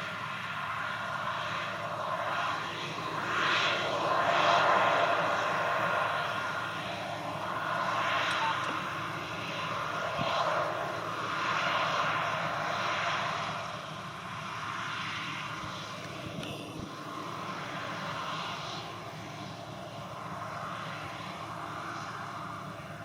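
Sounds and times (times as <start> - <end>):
combine harvester drone: 0.0 - 23.0.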